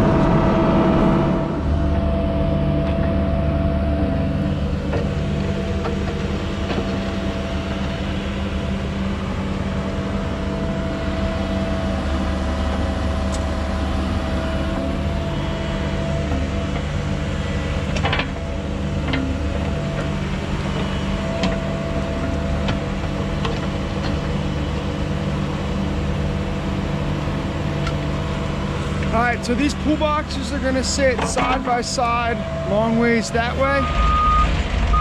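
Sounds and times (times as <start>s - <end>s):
construction machine engine running: 0.0s - 35.0s
steady whine: 0.0s - 35.0s.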